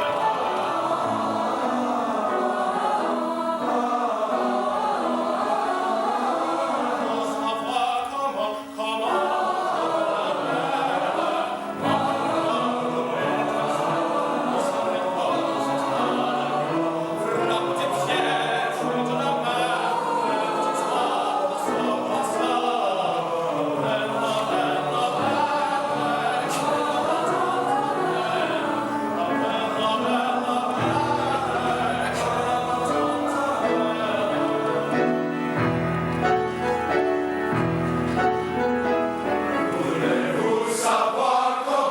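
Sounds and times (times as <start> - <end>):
men's chorus singing: 0.0 - 37.0, 37.6 - 41.9
low musical accompaniment: 0.0 - 41.8.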